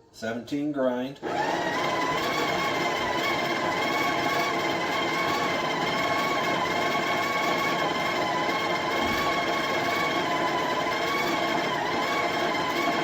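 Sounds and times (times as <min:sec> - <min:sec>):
coffee grinder motor whine: 0:01.2 - 0:13.0.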